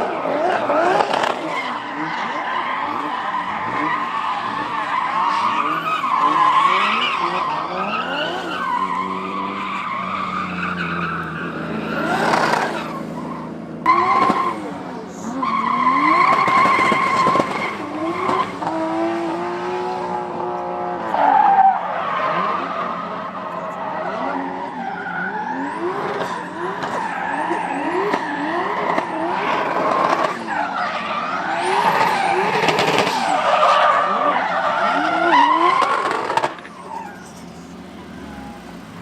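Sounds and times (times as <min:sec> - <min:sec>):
tyres squealing: 0:00.0 - 0:19.4, 0:20.2 - 0:38.7
car engines revving: 0:00.0 - 0:39.0.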